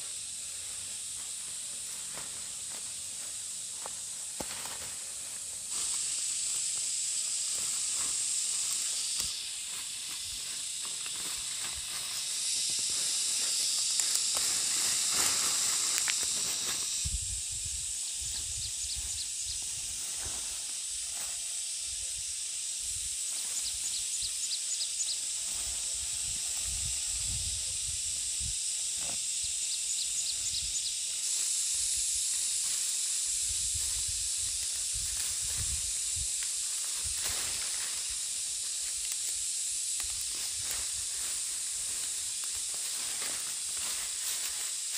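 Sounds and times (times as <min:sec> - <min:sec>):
high-pitched outdoor hiss: 0:00.0 - 0:44.9.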